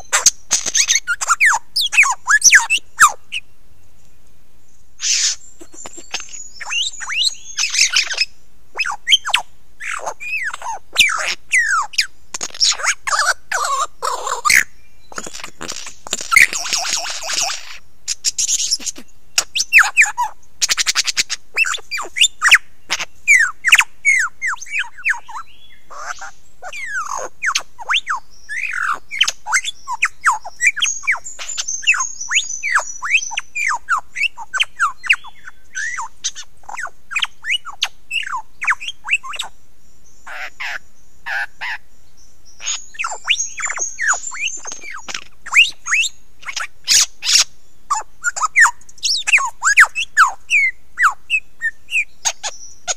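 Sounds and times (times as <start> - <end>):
lyrebird singing: 0.0 - 4.1, 4.7 - 52.9.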